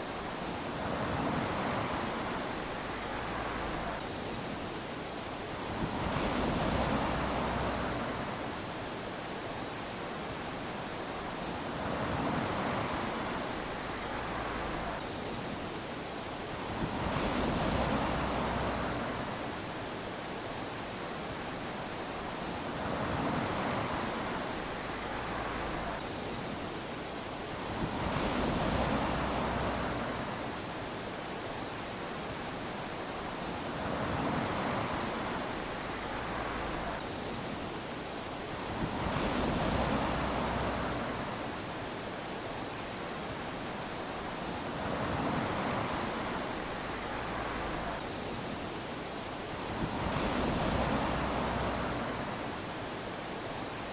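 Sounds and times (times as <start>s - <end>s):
small waves washing onto beach: 0.0s - 53.9s.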